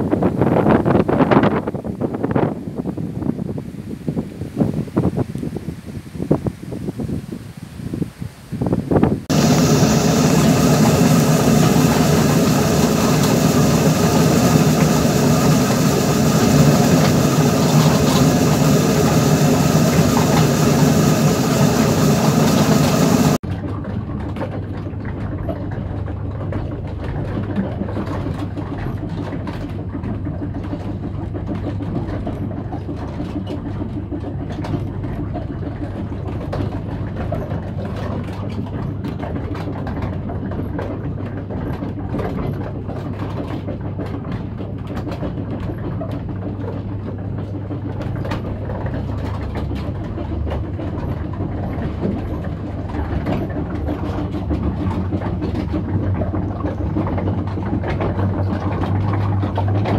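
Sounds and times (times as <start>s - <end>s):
wooden gearing mechanical hum: 9.0s - 59.9s.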